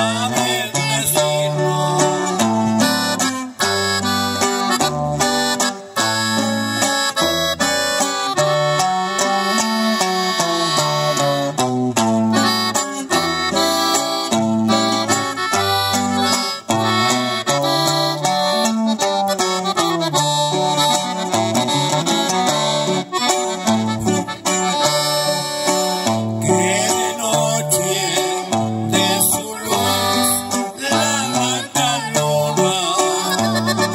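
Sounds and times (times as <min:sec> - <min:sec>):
accordion melody: 0:00.0 - 0:33.9
low bass notes: 0:00.0 - 0:33.9
strummed guitar: 0:00.0 - 0:33.9.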